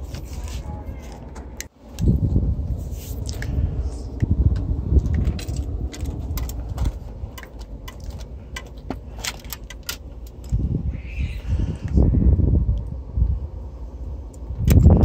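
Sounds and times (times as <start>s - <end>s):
low rumbling handling noise: 0.0s - 15.0s.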